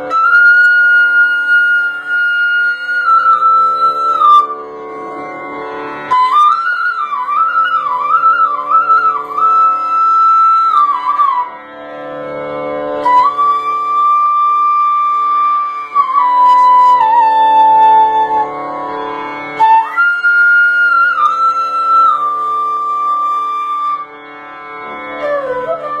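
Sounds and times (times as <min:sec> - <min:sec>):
bamboo flute slow melody: 0:00.0 - 0:05.0, 0:06.0 - 0:11.7, 0:13.0 - 0:24.3, 0:25.0 - 0:26.0.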